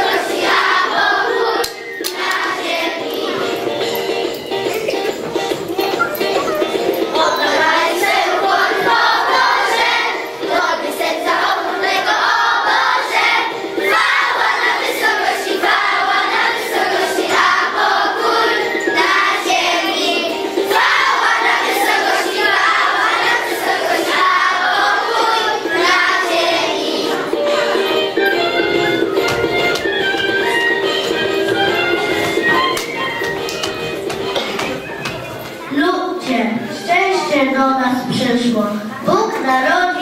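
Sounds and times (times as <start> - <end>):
children singing: 0.0 - 35.8
music: 0.0 - 40.0.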